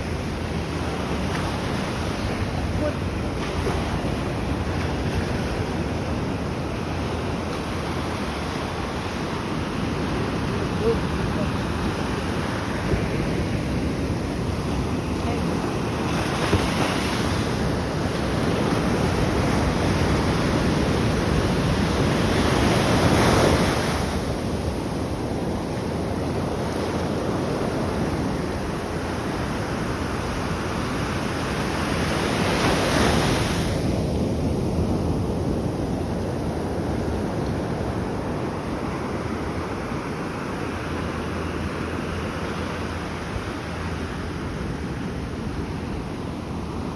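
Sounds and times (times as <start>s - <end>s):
ocean waves breaking: 0.0s - 46.9s
wind rumbling on microphone: 0.0s - 46.9s.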